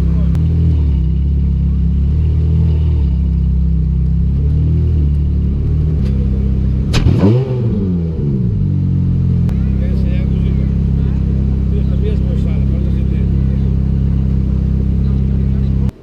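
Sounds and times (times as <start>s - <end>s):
car engine running: 0.0s - 16.0s
engine throttle blip: 0.0s - 16.0s.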